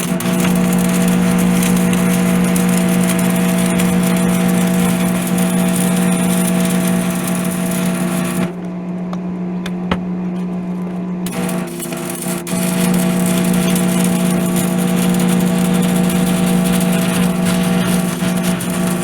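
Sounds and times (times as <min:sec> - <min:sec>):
crackling welding arc: 0:00.0 - 0:08.6, 0:11.3 - 0:19.0
welder electrical hum: 0:00.0 - 0:19.0.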